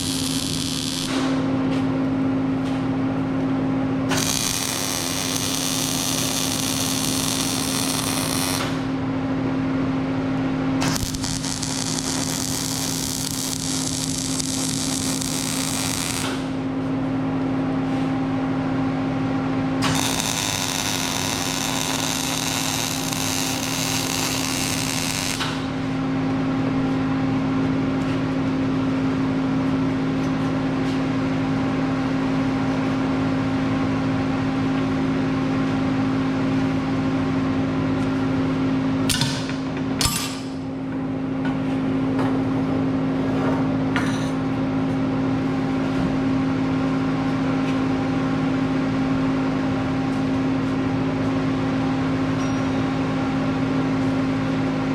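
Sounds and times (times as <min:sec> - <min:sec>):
electrical machine hum: 0:00.0 - 0:54.9.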